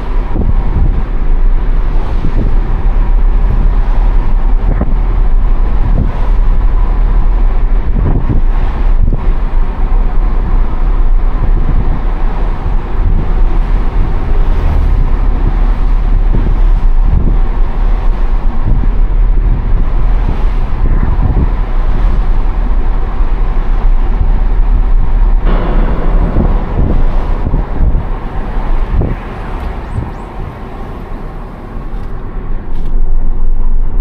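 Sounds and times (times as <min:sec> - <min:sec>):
tyre and wind noise in car: 0:00.0 - 0:34.0.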